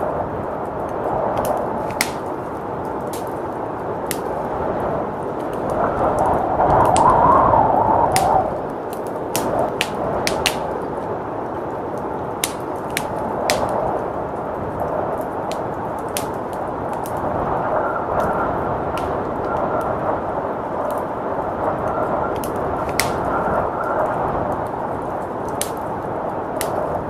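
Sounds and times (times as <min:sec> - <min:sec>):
blizzard wind rushing: 0:00.0 - 0:27.0
wood fire crackling: 0:00.0 - 0:27.0.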